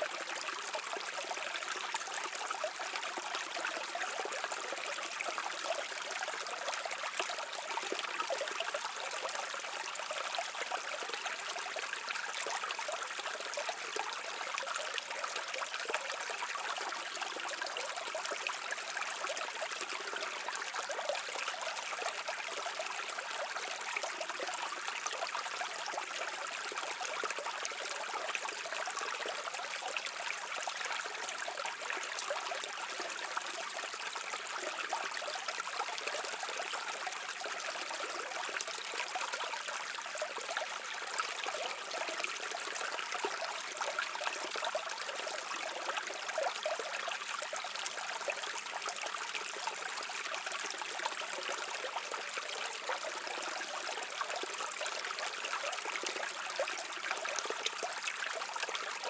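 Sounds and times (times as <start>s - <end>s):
brook babbling over stones: 0.0s - 59.0s.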